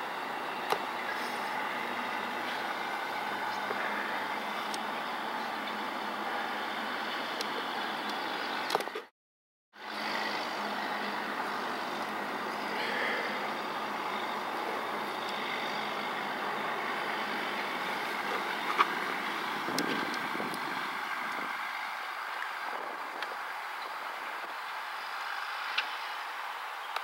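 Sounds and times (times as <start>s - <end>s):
steady outdoor hiss: 0.0s - 9.1s, 9.8s - 27.0s.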